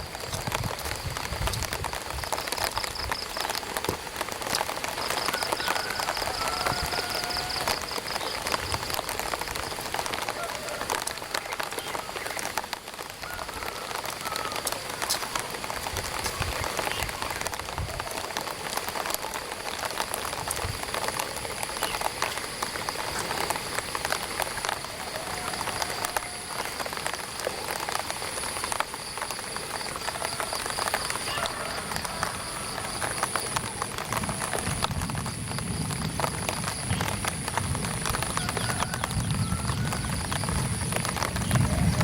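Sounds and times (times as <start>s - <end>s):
rain pattering on an umbrella: 0.0s - 42.0s.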